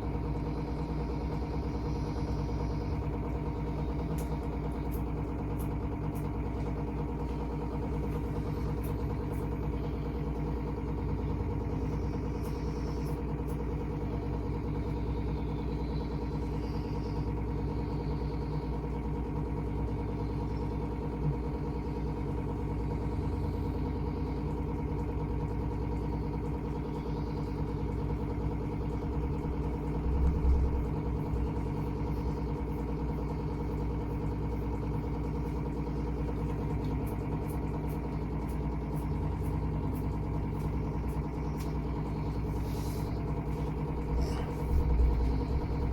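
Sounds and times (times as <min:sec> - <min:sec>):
mechanical hum: 0:00.0 - 0:45.9.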